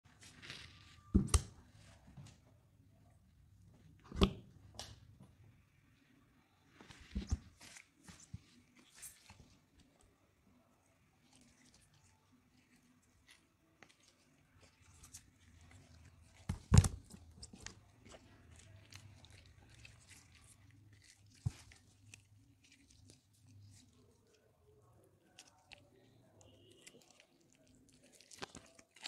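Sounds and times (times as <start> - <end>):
wet soap squishing and crackling: 0.1 - 2.2, 6.3 - 29.0.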